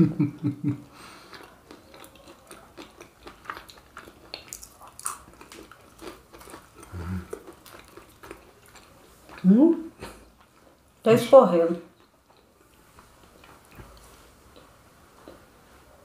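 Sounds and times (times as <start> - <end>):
chewing crisp pastry: 0.8 - 16.0.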